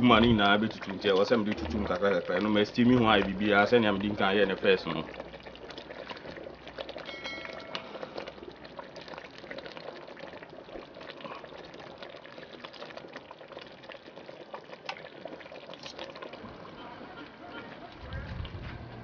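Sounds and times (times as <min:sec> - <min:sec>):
stew bubbling in a pot: 0:00.0 - 0:19.0.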